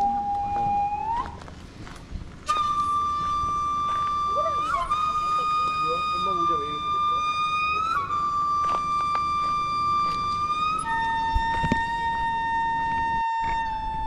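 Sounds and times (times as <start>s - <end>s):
instrument holding long notes: 0.0s - 1.6s, 2.4s - 14.0s.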